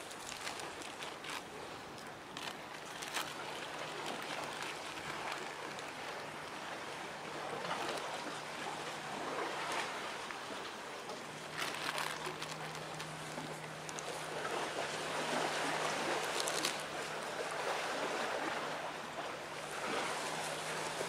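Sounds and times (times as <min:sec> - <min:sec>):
small waves lapping: 0:00.0 - 0:21.0
wind: 0:00.0 - 0:21.0.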